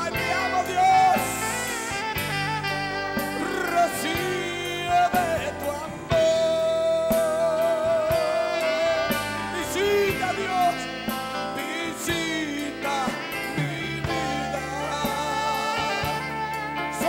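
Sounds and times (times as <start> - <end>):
drums on a steady beat: 0.0 - 17.0
electric guitar: 0.0 - 17.0
keyboard: 0.0 - 17.0.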